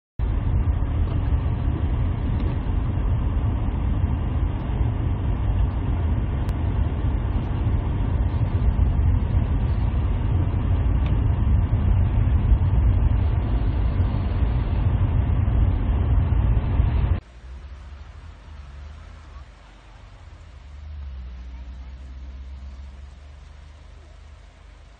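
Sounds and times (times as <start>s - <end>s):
car interior road rumble: 0.2s - 24.9s.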